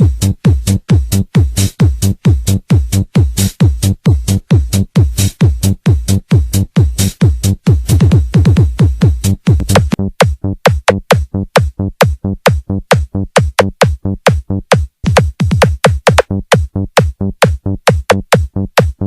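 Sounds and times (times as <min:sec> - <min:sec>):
electronic dance music: 0:00.0 - 0:19.0.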